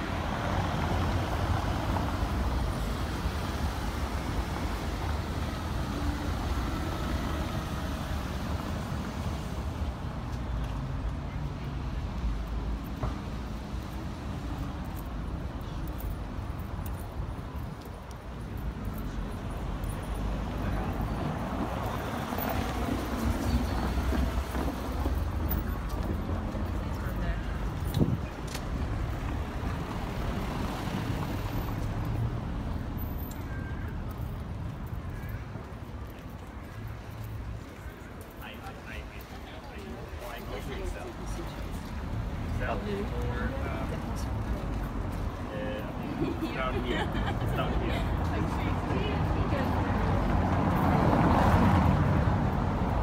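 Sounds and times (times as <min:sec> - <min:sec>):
cars passing: 0:00.0 - 0:53.0
city street traffic: 0:00.0 - 0:53.0.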